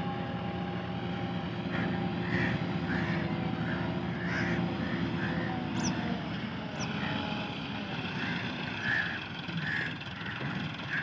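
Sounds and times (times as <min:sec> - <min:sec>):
distant tractor diesel engine: 0:00.0 - 0:11.0.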